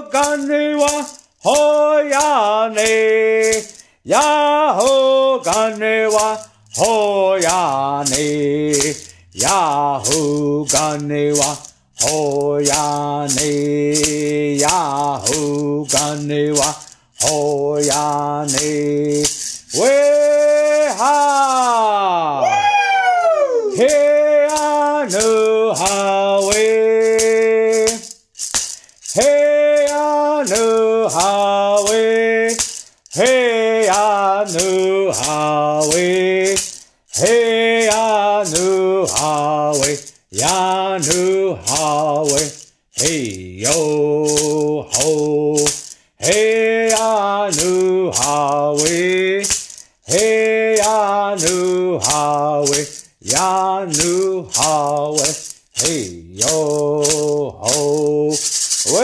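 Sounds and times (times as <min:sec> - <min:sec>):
man singing: 0:00.0 - 0:22.6, 0:23.7 - 0:59.0
hand rattle shaken in steady beat: 0:00.0 - 0:23.0, 0:23.7 - 0:59.0.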